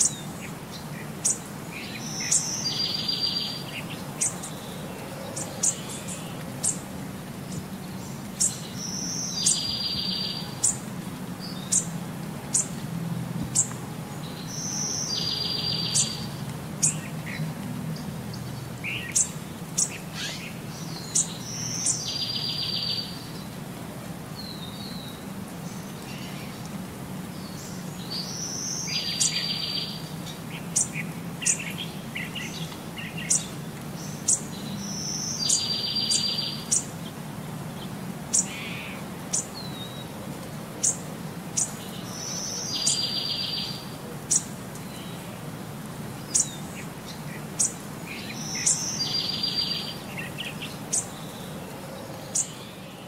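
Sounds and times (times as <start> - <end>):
birds chirping: 0.0 - 12.8, 13.4 - 23.6, 24.3 - 53.0.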